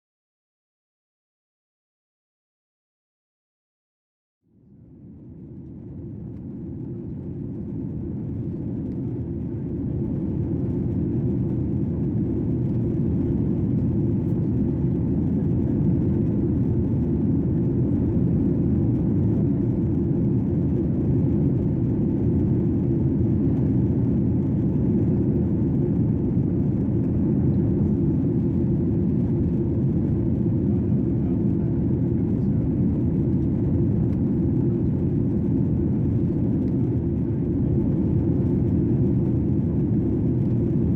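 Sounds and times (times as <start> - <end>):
airliner cabin rumble: 4.6 - 40.9.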